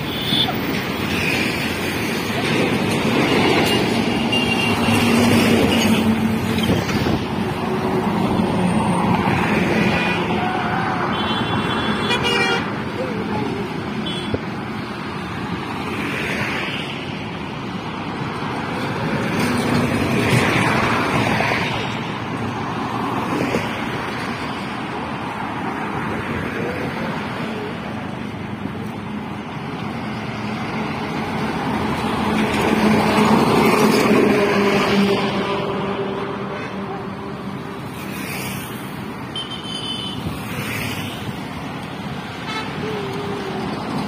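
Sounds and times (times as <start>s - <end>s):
highway traffic rushing past: 0.0s - 44.0s.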